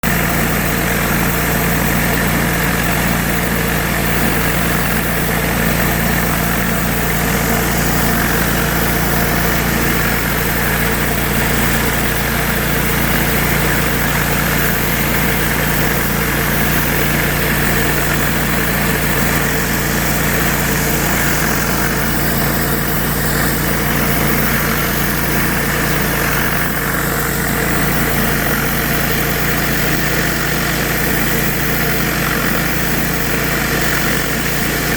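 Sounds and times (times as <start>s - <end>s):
pressure washer engine running: 0.0s - 34.9s.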